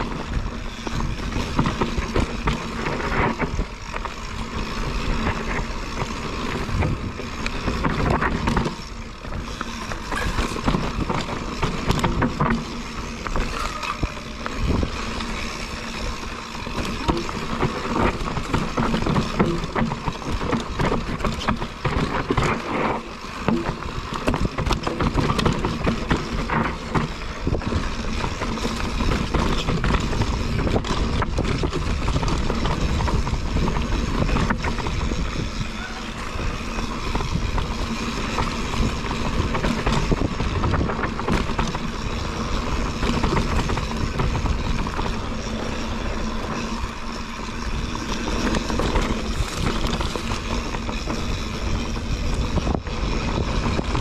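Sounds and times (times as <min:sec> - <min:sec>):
bike rattling over bumps: 0:00.0 - 0:54.0
tyres rolling over gravel: 0:00.0 - 0:54.0
wind noise on microphone: 0:00.0 - 0:54.0.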